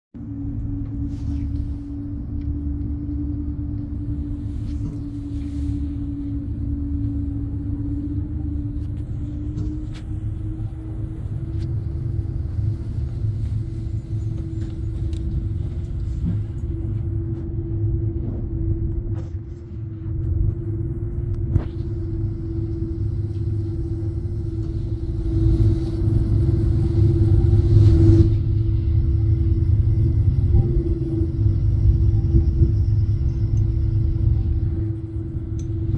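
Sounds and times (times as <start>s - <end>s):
cable car cabin rumble: 0.2s - 35.9s.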